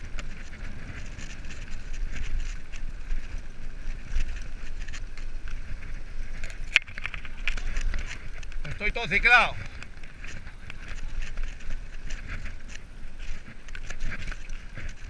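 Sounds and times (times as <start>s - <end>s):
bike tyre rumble and rattle: 0.0s - 15.0s
wind on microphone: 0.0s - 15.0s.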